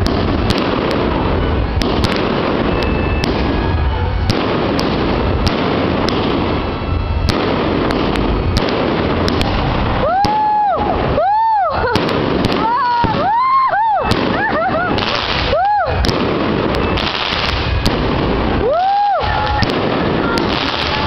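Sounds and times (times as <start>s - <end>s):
crackling pops: 0.0s - 21.0s
fireworks bangs: 0.0s - 21.0s
low rumble: 0.0s - 21.0s.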